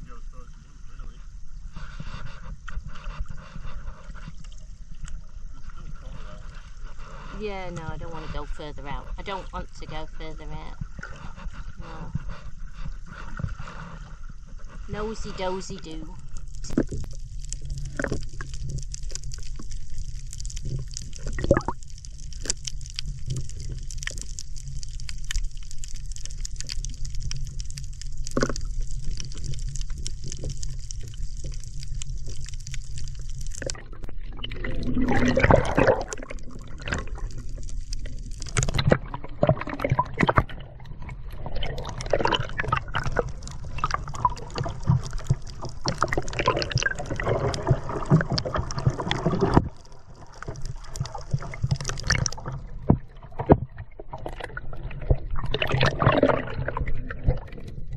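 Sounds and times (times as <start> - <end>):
water sloshing and dripping: 2.0 - 57.9.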